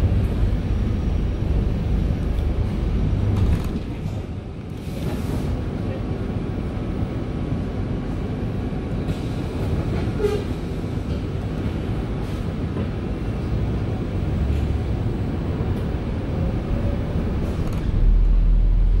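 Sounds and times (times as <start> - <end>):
bus cabin low rumble: 0.0 - 19.0.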